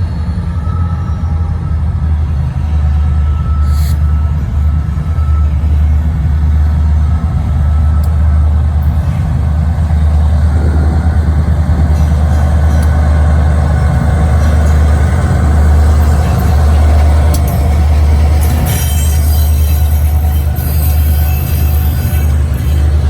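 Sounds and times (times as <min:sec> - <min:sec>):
diesel locomotives rumbling: 0:00.0 - 0:23.0.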